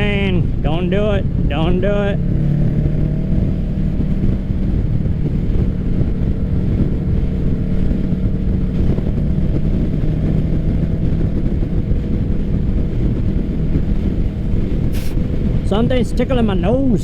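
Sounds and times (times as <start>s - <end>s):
motorcycle engine while riding: 0.0s - 17.0s.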